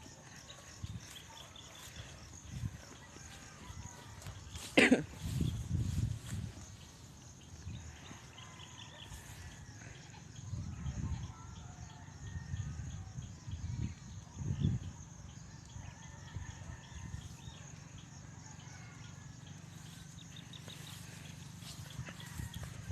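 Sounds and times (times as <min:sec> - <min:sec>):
high chirps of birds or insects: 0:00.0 - 0:22.9.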